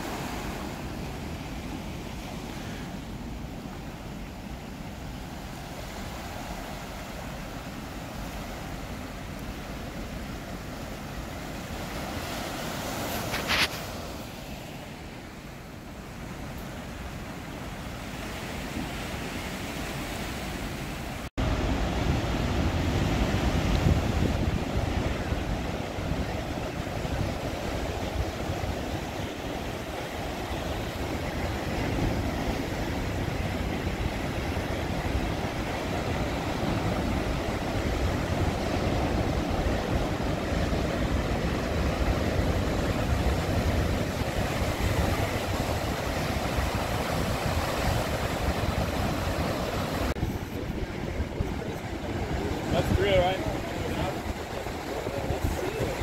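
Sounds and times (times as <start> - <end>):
surf crashing on rocky shore: 0.0 - 56.0.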